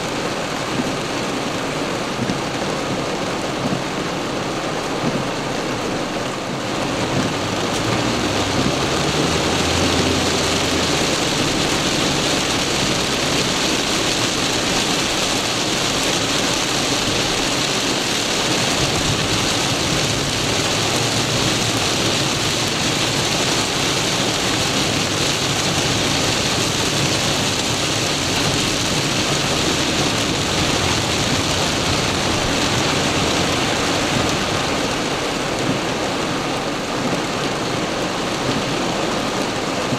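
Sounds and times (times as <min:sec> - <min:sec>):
heavy rain on a car: 0:00.0 - 0:39.9.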